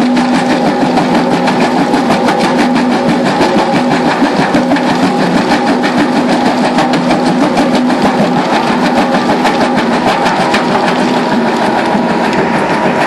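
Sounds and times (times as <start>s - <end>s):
crusher bucket clattering: 0.0s - 13.0s
diesel engine running: 0.0s - 13.0s.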